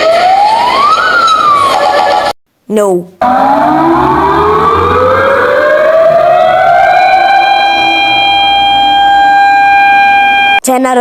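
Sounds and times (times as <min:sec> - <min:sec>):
siren wail: 0:00.0 - 0:02.3, 0:03.2 - 0:10.6.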